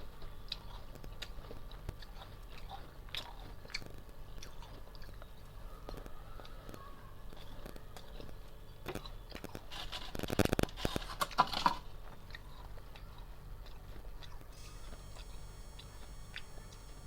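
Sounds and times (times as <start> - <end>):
frost being chewed: 0.2 - 17.0.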